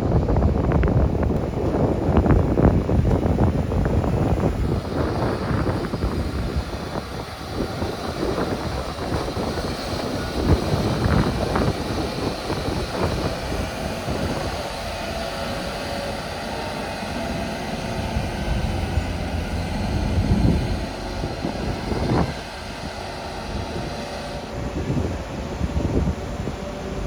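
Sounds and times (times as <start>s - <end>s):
mobile crane engine rumble: 0.0s - 27.0s.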